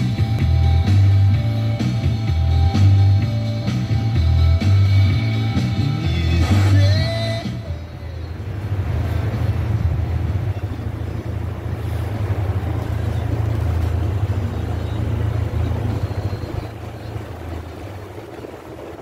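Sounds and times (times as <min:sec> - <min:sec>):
road and wind noise: 0:00.0 - 0:19.0
vehicle engine running low: 0:00.0 - 0:19.0.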